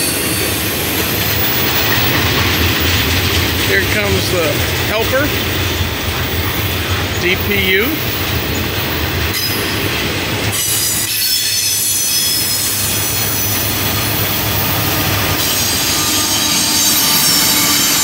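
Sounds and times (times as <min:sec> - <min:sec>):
train wheels squealing on rail: 0:00.0 - 0:04.6, 0:07.7 - 0:18.0
train cars rumbling: 0:00.0 - 0:18.0.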